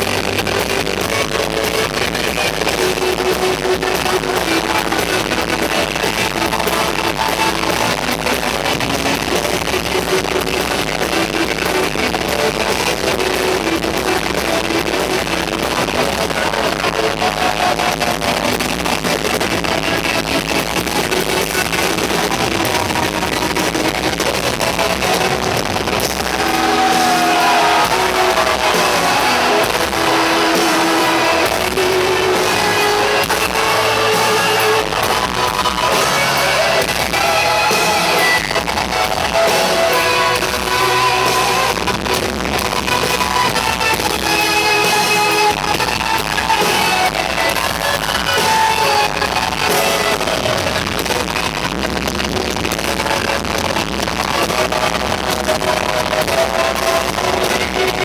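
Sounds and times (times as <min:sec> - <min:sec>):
guitar melody: 0:00.0 - 0:58.0
live rock band playing: 0:00.0 - 0:58.0.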